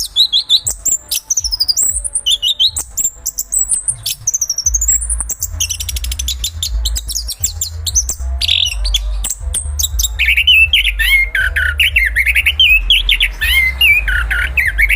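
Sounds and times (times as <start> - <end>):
thrush singing: 0.0 - 14.9.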